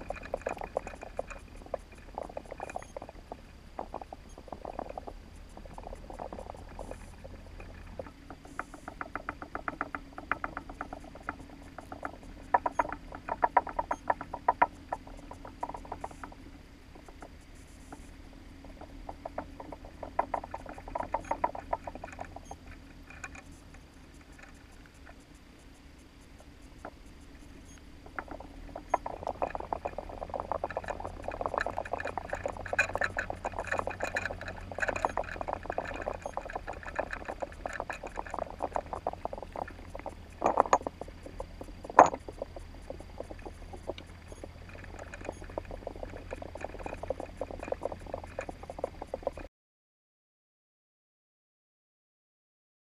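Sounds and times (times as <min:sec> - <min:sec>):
underwater clicking and crackling: 0:00.0 - 0:49.5.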